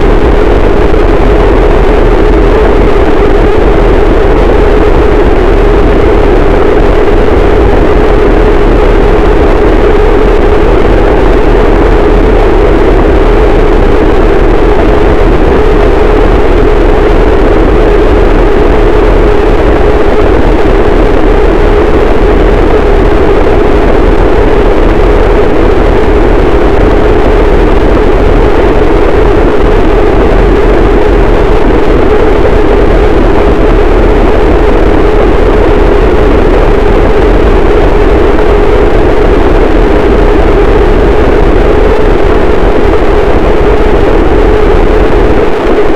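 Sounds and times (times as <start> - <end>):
deep rumble: 0.0 - 45.9
dense distorted static: 0.0 - 45.9.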